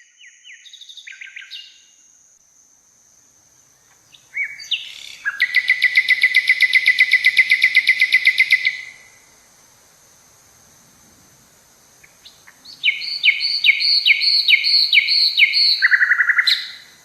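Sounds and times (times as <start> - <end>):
songbird singing trill: 0.0 - 2.2, 3.2 - 10.7, 11.4 - 17.0.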